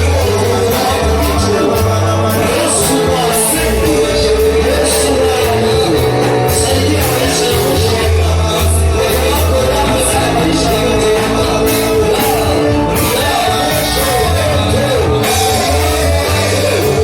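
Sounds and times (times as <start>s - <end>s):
music with bass and cymbals: 0.0s - 17.0s
voices singing and calling out: 0.0s - 17.0s.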